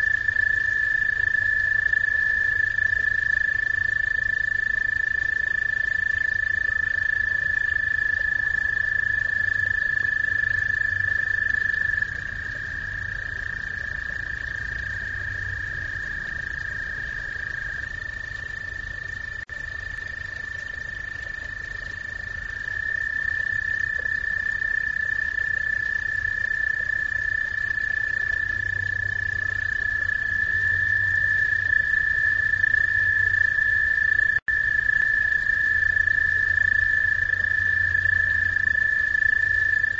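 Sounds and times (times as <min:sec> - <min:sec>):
frogs trilling: 0:00.0 - 0:39.9.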